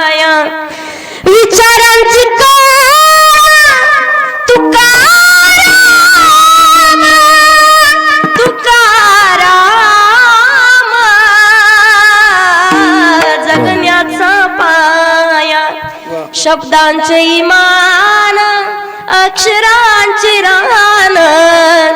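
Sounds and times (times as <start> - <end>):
woman singing devotional melody: 0.0 - 21.9.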